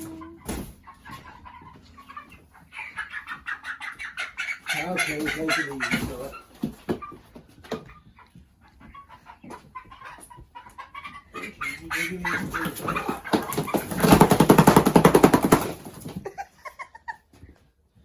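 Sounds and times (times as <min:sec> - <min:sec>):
chickens chirping: 0:00.0 - 0:18.0.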